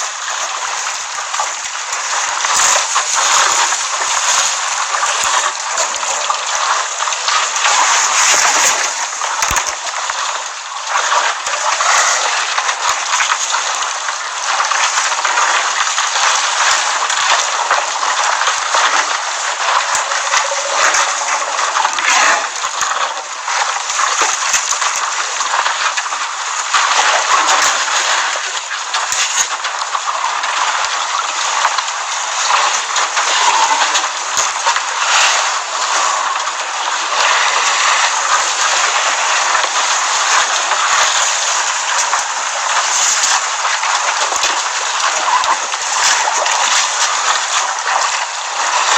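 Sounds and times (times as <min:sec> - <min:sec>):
water splashing and sloshing: 0:00.0 - 0:48.9.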